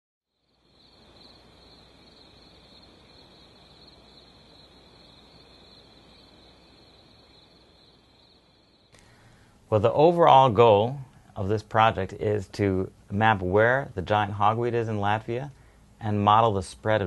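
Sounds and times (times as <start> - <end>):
insects chirring: 0.3 - 17.0
low outdoor background noise: 0.3 - 17.0.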